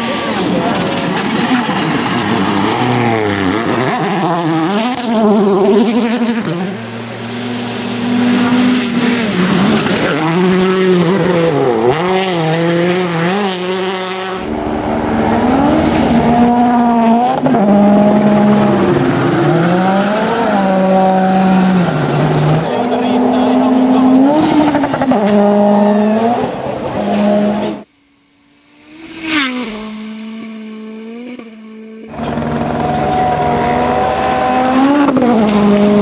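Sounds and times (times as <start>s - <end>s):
rally car engines revving hard: 0.0s - 27.9s, 28.6s - 36.0s.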